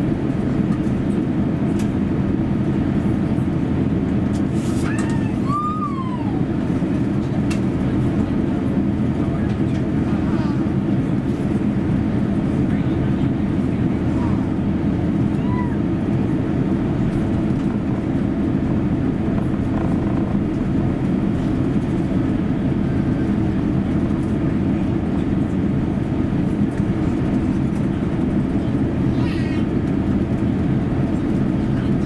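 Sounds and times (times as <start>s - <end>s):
aircraft cabin rumble and hum: 0.0s - 32.0s.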